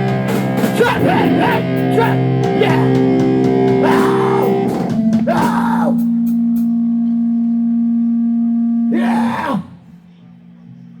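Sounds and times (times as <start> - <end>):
amplified electric guitar: 0.0 - 11.0.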